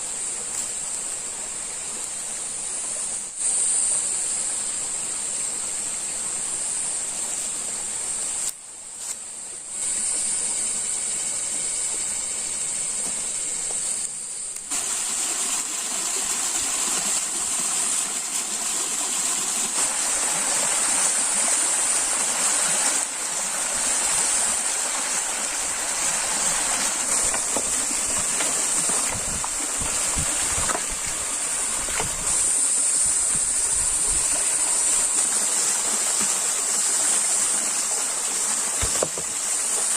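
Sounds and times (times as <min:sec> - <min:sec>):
high-pitched insect drone: 0:00.0 - 0:39.9
stream water rushing: 0:04.6 - 0:39.9.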